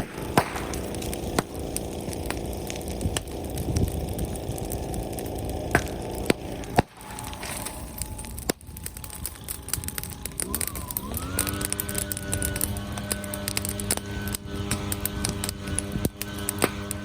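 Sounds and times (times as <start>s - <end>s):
sharp pops from fire: 0.0s - 17.0s
wood fire crackling: 0.0s - 17.0s.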